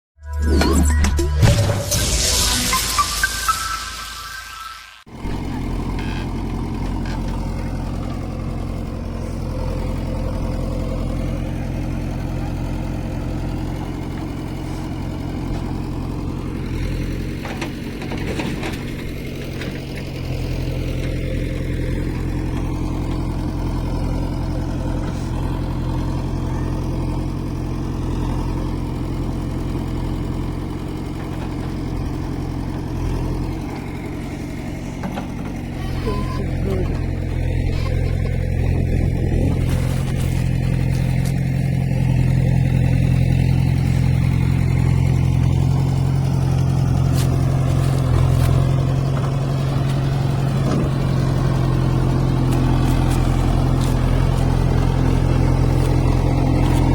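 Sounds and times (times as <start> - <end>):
diesel engine idling: 5.0 - 56.9.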